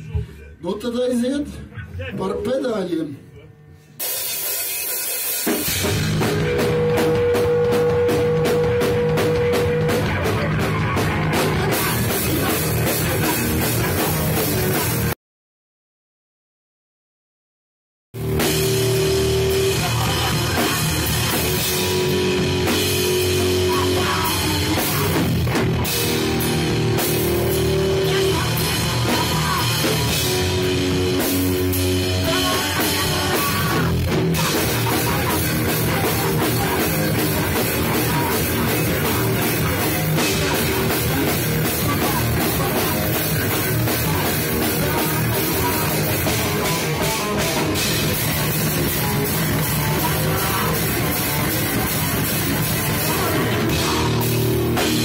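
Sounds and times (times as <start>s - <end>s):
bass guitar: 0.0s - 15.2s, 18.2s - 55.0s
distorted electric guitar: 1.2s - 15.2s, 18.2s - 55.0s
drum kit: 4.0s - 15.2s, 18.2s - 55.0s.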